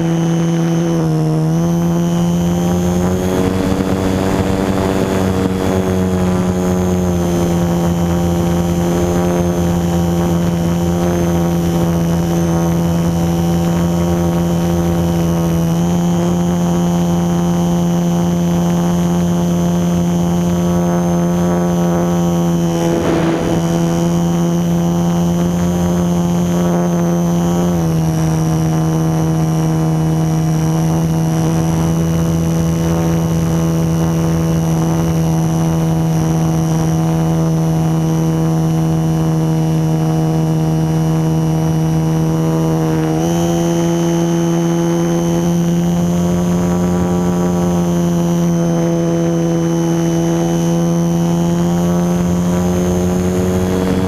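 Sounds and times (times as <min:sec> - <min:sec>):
model airplane motor whine: 0:00.0 - 0:54.0.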